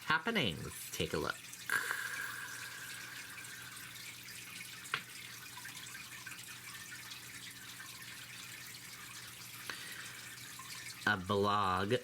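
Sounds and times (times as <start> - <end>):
faint electrical hum: 0.0 - 12.0
low background hiss: 0.0 - 12.0.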